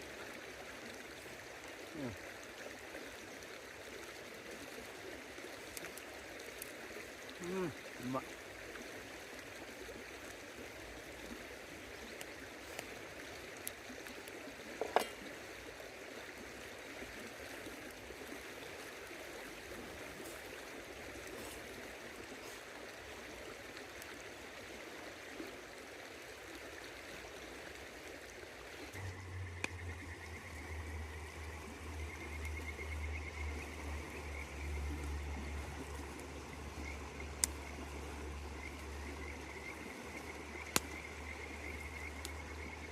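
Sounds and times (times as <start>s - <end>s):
river water running: 0.0s - 42.9s.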